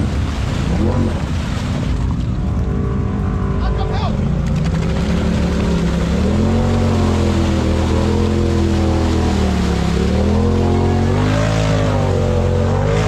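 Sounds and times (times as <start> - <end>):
off-road vehicle engine revving: 0.0 - 1.8, 2.4 - 13.0.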